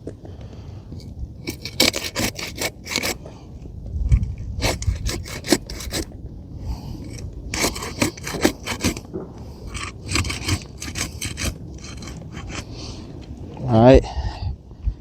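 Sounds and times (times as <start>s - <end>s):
pry bar scraping under shingles: 0.0s - 6.2s, 6.8s - 13.4s.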